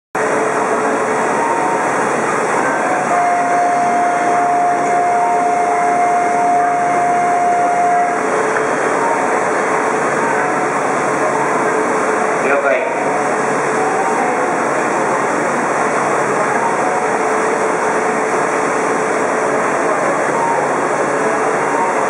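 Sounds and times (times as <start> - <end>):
steady high tone: 0.2 - 22.0
train whirring hum: 0.2 - 22.0.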